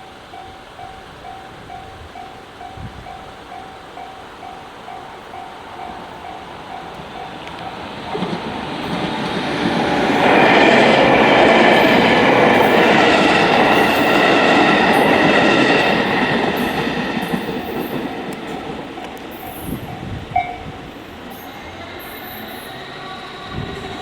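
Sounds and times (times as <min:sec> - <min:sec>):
rumble of train wheels on rail: 0:00.0 - 0:24.0.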